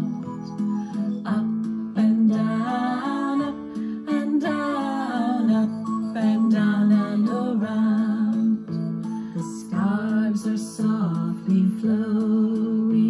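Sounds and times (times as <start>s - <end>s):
person singing children's song: 0.0s - 13.0s.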